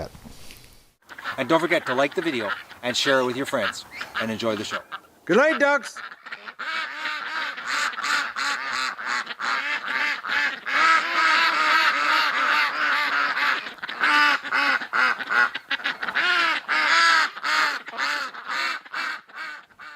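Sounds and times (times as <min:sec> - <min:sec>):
ducks quacking: 0:01.0 - 0:19.9.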